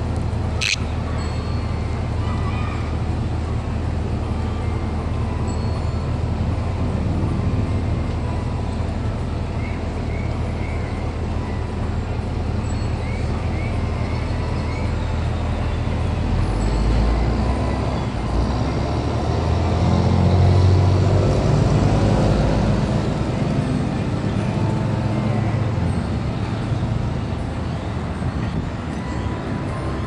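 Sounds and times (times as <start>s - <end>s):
vehicle passing rumble: 0.0s - 30.0s.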